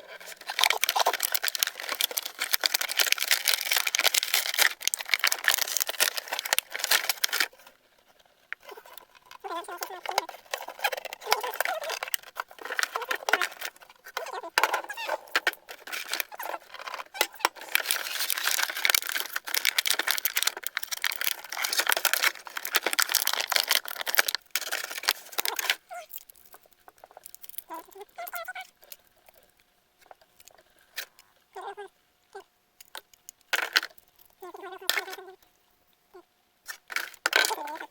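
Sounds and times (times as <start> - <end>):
plastic toy pieces rustling and clicking: 0.0 - 31.3, 32.8 - 35.4, 36.7 - 37.9.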